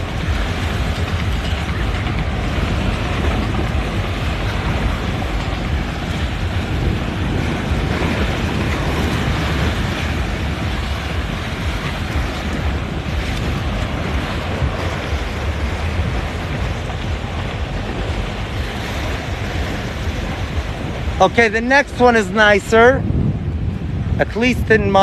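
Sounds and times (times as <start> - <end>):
boat motors passing: 0.0 - 25.0
waves washing: 0.0 - 25.0
wind buffeting microphone: 0.0 - 25.0.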